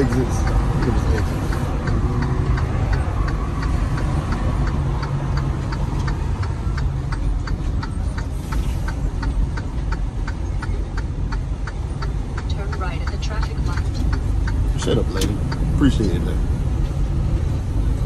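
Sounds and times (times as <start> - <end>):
truck engine and road rumble: 0.0 - 18.0
turn signal clicking: 0.0 - 18.0.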